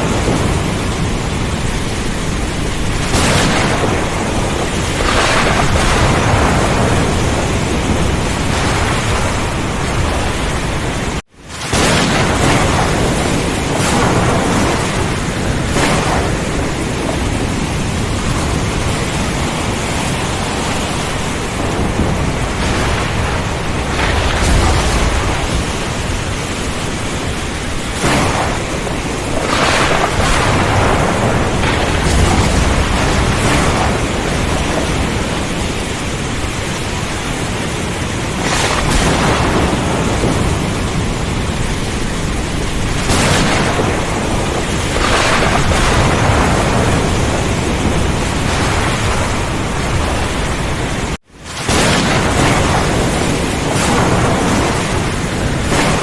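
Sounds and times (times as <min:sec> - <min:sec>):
heavy rain pouring: 0:00.0 - 0:56.0
thunder rumbling: 0:00.0 - 0:56.0.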